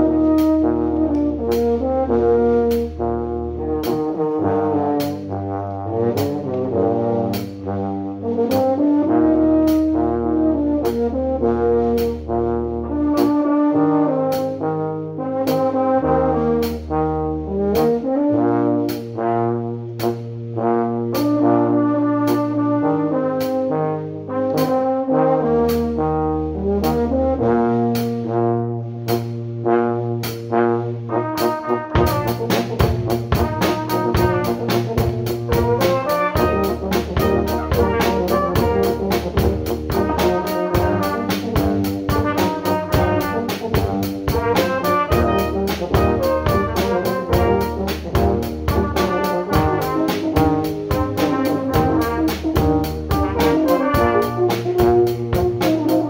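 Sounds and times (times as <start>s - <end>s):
drum kit beat: 0.0s - 23.8s, 24.5s - 56.0s
brass band playing: 0.0s - 56.0s.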